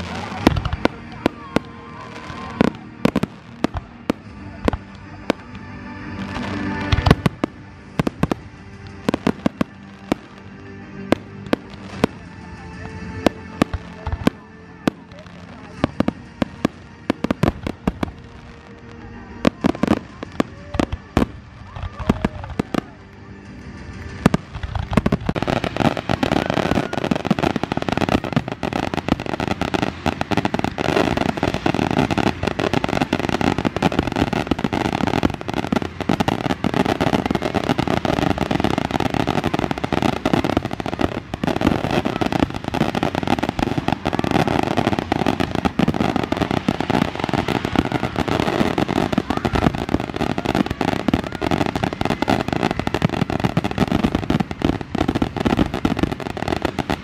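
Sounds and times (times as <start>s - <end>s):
fireworks crackling and bursting: 0.0s - 57.0s.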